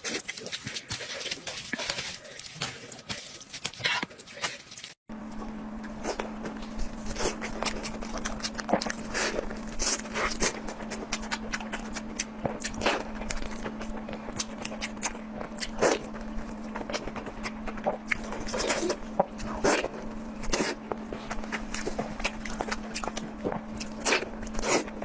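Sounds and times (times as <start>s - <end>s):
faint hum: 0.0s - 25.0s
wet chewing and smacking: 0.0s - 25.0s.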